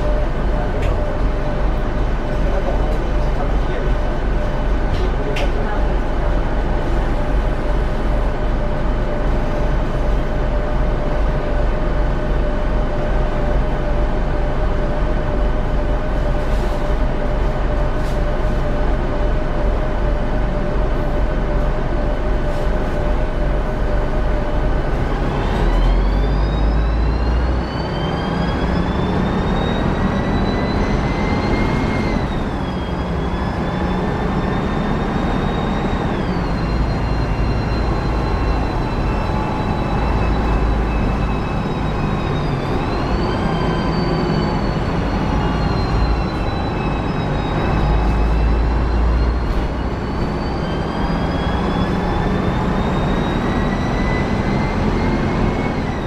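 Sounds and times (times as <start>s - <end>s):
bus diesel engine drone: 0.0s - 56.0s
high transmission whine: 0.0s - 56.0s.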